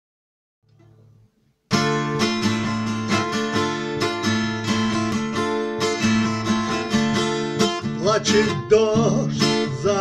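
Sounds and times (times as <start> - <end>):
acoustic guitar strumming chords: 0.7 - 10.0.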